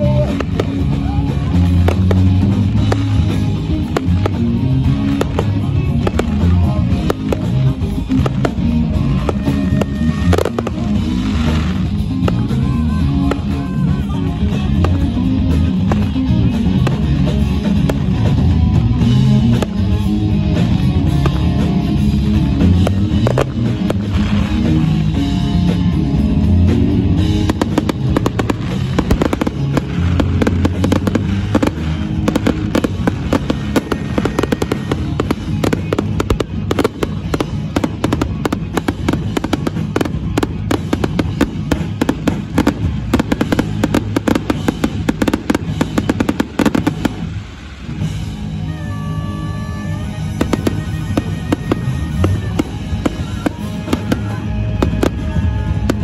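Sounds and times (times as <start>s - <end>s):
fireworks bangs and crackles: 0.0s - 56.0s
music: 0.0s - 56.0s.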